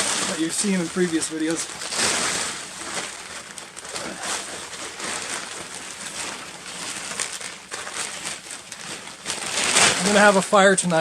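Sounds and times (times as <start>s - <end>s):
tarp rustling and crinkling: 0.0s - 11.0s.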